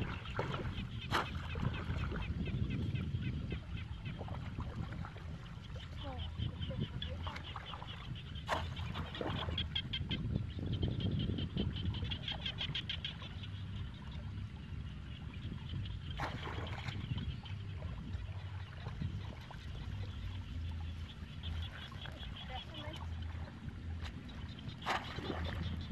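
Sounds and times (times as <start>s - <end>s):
legs sloshing through water: 0.0s - 9.9s, 11.9s - 25.9s.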